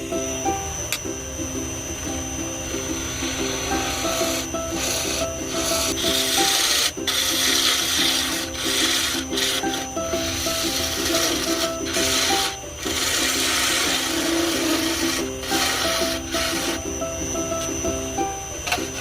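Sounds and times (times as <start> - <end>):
background music: 0.0 - 19.0
lathe tool scraping wood: 1.7 - 19.0.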